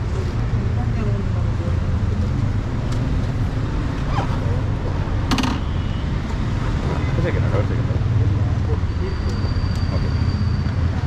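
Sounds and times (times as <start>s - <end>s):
motorcycle engine rumbling: 0.8s - 10.4s.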